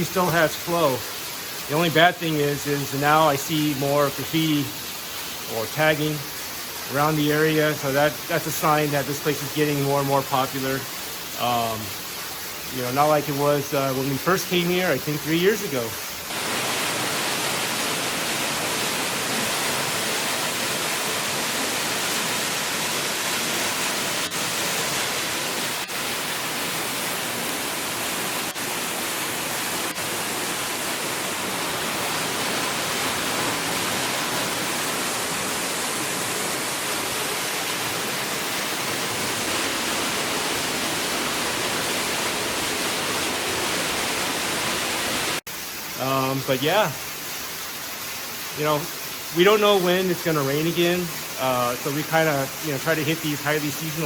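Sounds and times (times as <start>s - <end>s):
waterfall pouring: 0.0s - 54.0s.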